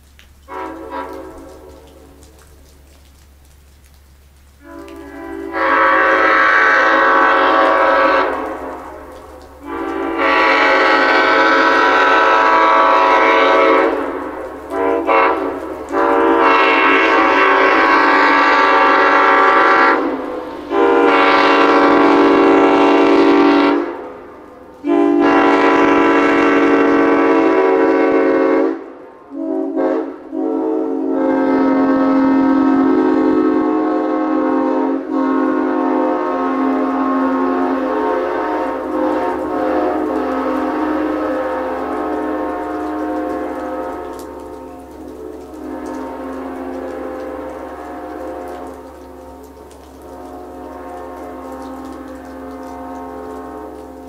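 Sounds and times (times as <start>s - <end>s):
train horn blasts: 0.4s - 2.3s, 4.6s - 54.0s.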